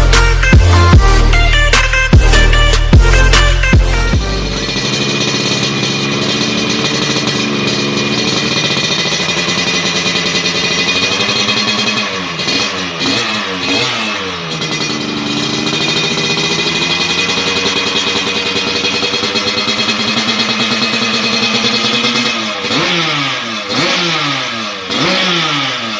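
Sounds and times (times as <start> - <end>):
two-stroke motorcycle engine revving: 0.0 - 25.9.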